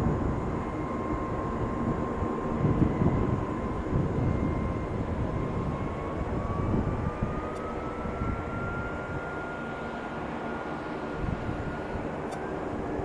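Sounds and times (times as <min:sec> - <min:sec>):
jet engines roaring: 0:00.0 - 0:13.0
thin rising jet whine: 0:00.0 - 0:13.0.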